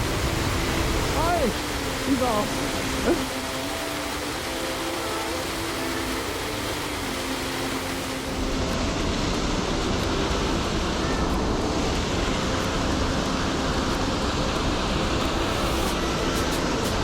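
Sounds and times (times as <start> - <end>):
waterfall and creek rushing: 0.0 - 17.0.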